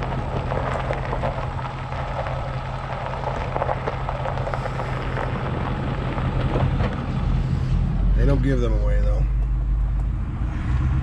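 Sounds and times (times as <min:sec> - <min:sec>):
rushing background noise: 0:00.0 - 0:11.0
vehicle engine humming: 0:00.0 - 0:11.0.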